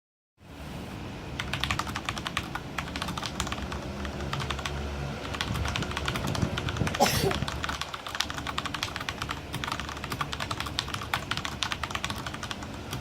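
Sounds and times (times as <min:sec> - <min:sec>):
mechanical keyboard typing: 0:01.4 - 0:13.0.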